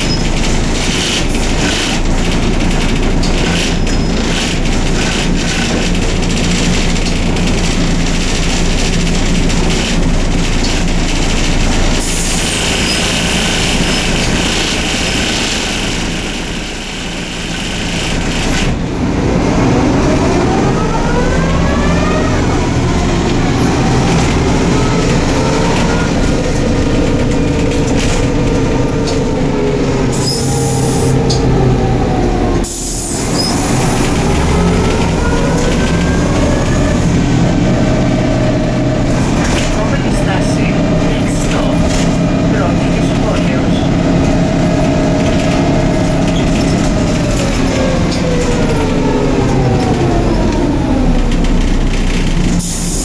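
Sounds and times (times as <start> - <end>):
bus engine and road rumble: 0.0 - 53.0
engine and driveline whine: 0.0 - 53.0.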